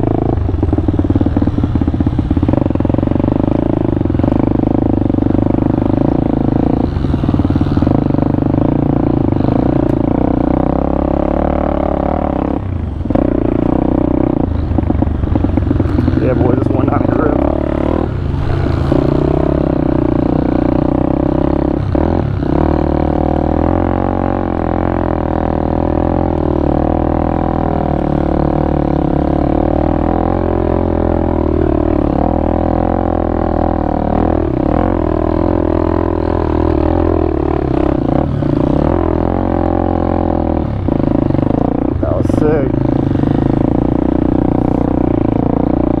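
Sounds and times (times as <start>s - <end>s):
motorbike engine running: 0.0s - 46.0s.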